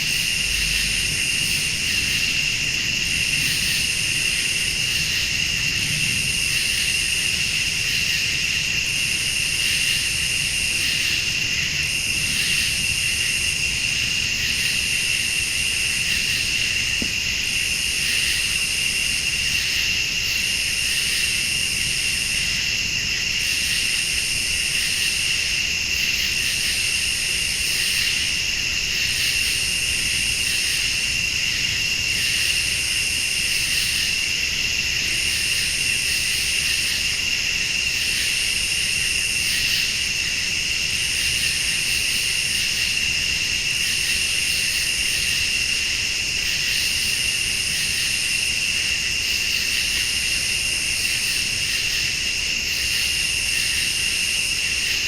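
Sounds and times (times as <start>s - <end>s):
crickets trilling: 0.0s - 55.0s
high insect call bursts: 0.0s - 55.0s.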